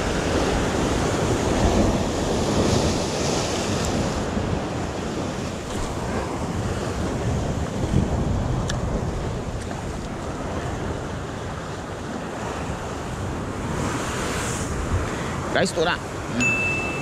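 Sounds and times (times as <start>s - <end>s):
sea surf washing against rocks: 0.0s - 17.0s
wind buffeting the microphone: 0.0s - 17.0s.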